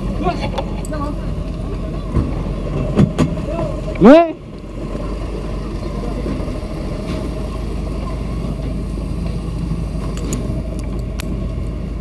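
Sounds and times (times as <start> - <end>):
fire truck engine and pump running: 0.0 - 12.0.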